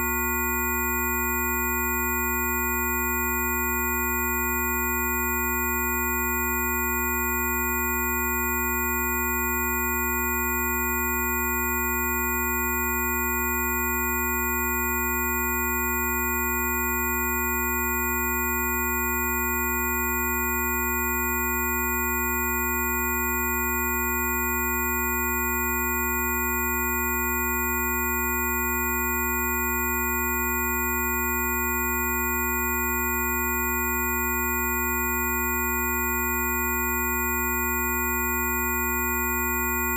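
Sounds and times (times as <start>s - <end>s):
steady electronic sine tones: 0.0s - 39.9s.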